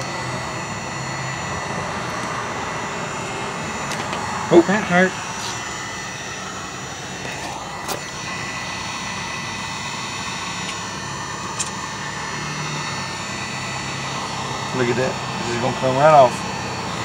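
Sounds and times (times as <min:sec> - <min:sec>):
heat gun fan blowing: 0:00.0 - 0:17.0.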